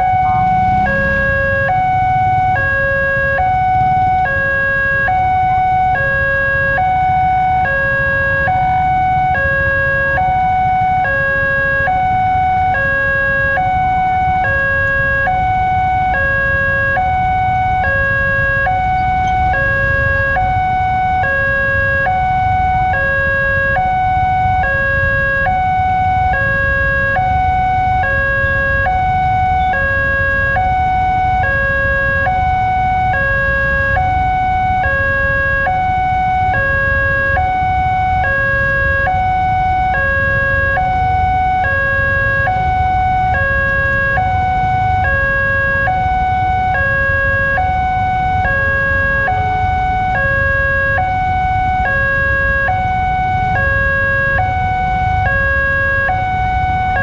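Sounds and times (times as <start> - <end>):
level crossing alarm two tones: 0.0 - 57.0.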